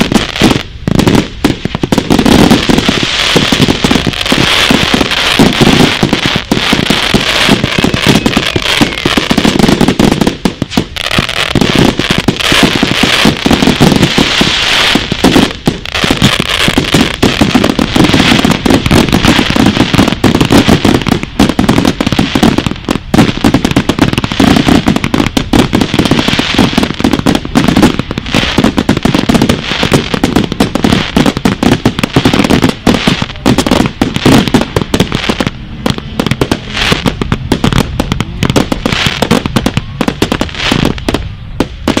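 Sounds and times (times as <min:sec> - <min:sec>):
fireworks banging and crackling: 0:00.0 - 0:42.0.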